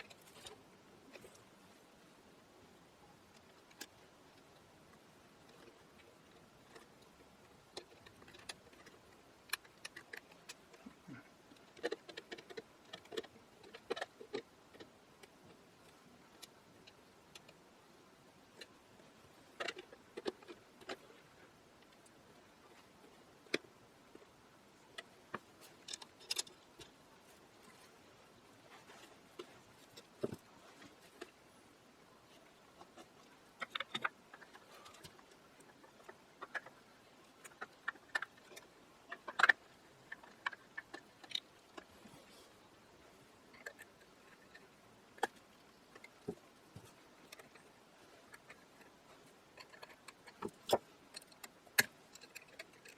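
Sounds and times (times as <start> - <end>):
light clicks and taps of small parts: 3.2 - 52.9.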